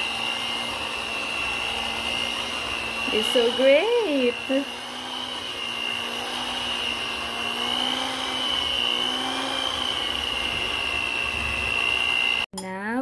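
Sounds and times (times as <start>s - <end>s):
electric mixer motor whine: 0.0s - 12.5s.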